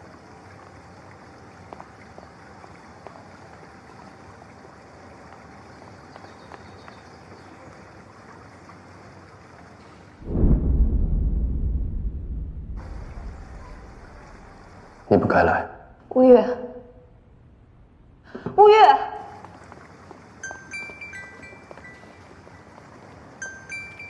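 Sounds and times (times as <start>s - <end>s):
indoor background hiss: 0.0s - 24.0s.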